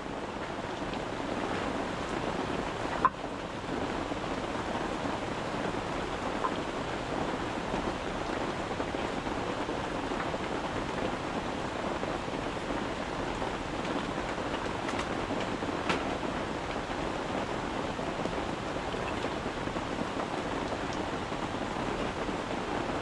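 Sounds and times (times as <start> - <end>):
rain falling on a tent: 0.0 - 23.0.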